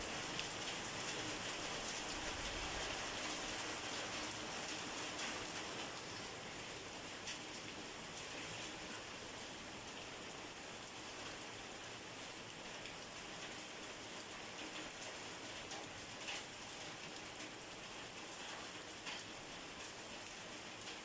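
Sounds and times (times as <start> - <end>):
raindrops pattering: 0.0 - 21.0
steady rain hiss: 0.0 - 21.0.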